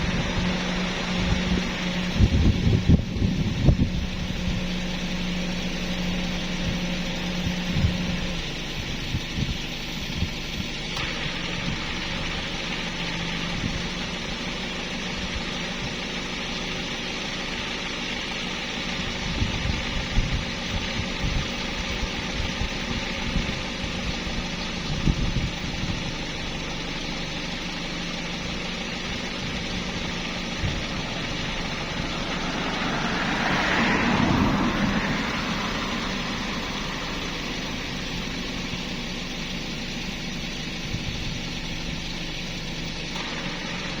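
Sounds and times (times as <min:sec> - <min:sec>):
motor idling: 0:00.0 - 0:44.0.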